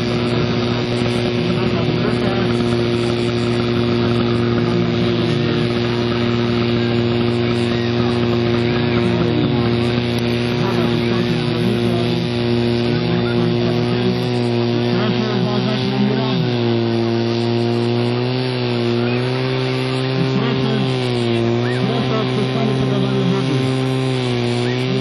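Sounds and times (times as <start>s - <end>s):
fire pump engine droning: 0.0s - 25.0s.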